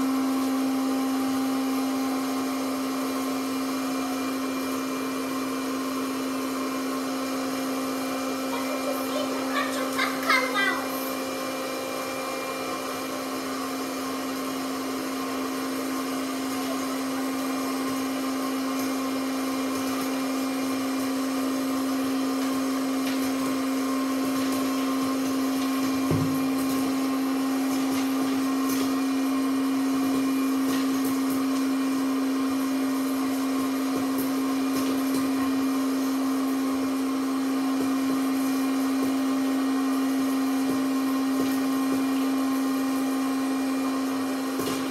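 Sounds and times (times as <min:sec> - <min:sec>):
popcorn machine motor hum: 0:00.0 - 0:44.9.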